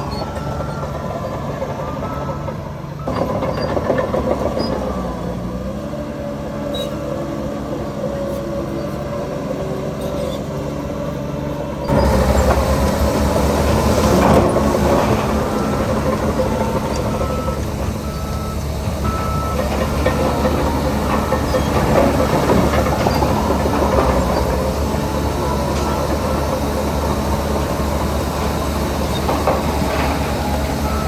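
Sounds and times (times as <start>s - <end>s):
heavy machinery diesel engines: 0.0s - 31.0s.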